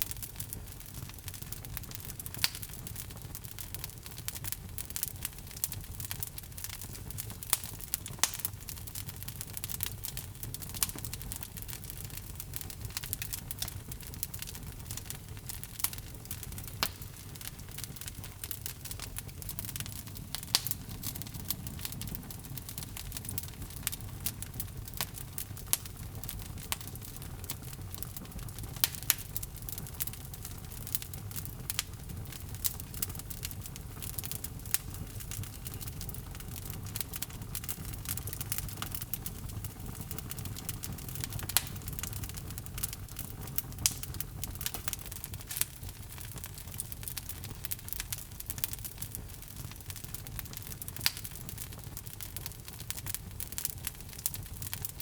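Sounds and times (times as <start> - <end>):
log fire crackling: 0.0 - 55.0.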